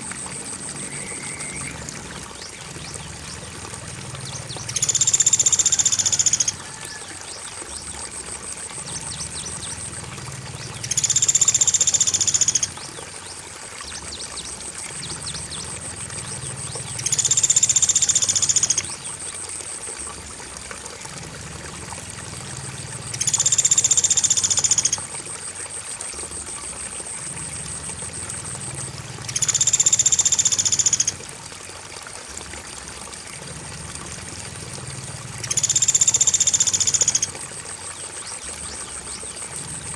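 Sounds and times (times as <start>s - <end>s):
cricket chirring: 0.0s - 20.2s, 21.1s - 31.4s, 33.2s - 39.9s
flowing water rushing: 0.0s - 39.9s.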